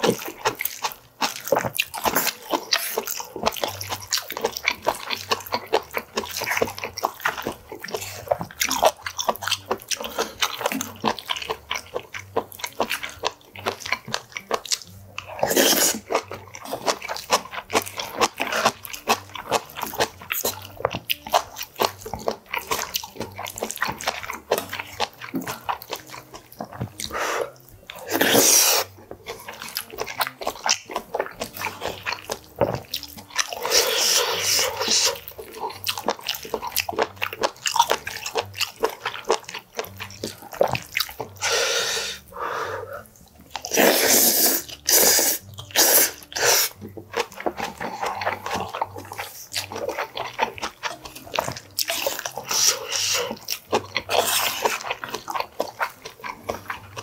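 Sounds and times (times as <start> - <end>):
chewing and mouth smacking: 0.0 - 57.0.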